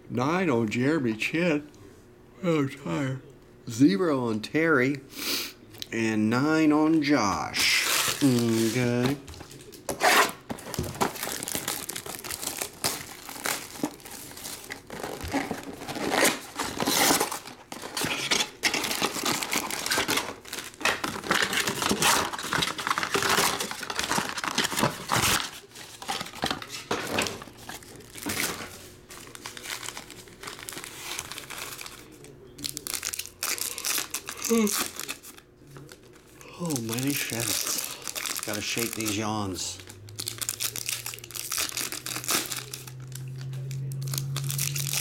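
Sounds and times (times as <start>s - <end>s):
foil packs crinkling: 7.5s - 45.0s.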